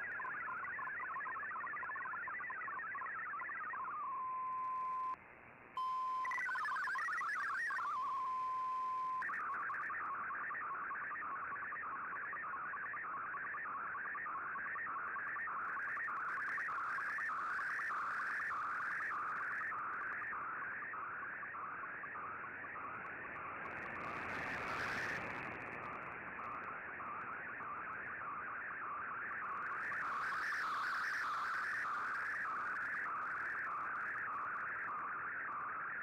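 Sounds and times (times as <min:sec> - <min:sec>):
steady radio tone: 0:00.0 - 0:05.2, 0:05.8 - 0:36.0
radio hiss: 0:05.9 - 0:36.0.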